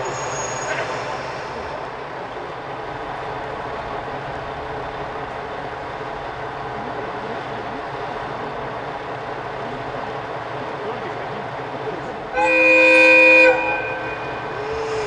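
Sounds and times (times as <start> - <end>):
diesel railcar engine: 0.0 - 15.0
rail noise: 0.0 - 15.0.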